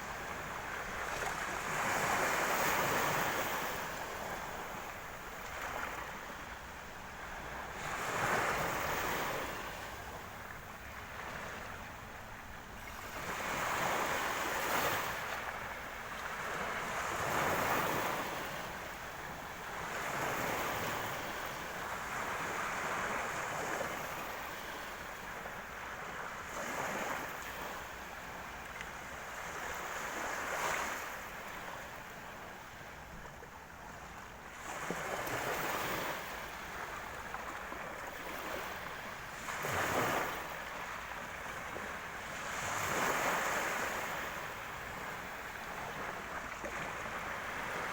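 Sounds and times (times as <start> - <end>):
surf waves breaking on shore: 0.0 - 47.9.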